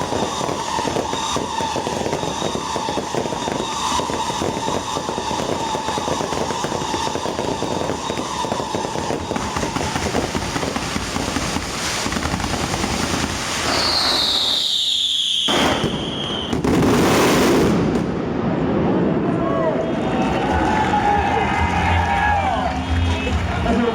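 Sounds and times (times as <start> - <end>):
firework whistle: 0.0 - 18.1, 19.4 - 23.9
firecrackers crackling: 0.0 - 23.9.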